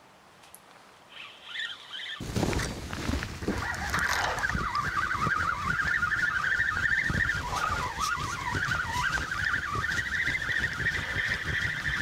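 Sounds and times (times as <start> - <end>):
wind buffeting microphone: 2.2 - 12.0.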